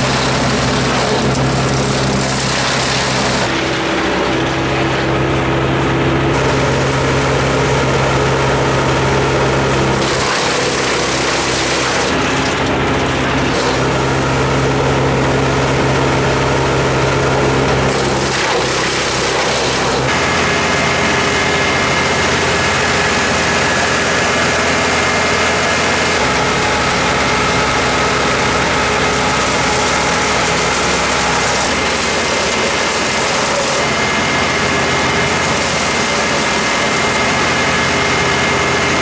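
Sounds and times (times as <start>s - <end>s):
brush chipper engine chipping trees: 0.0s - 39.0s.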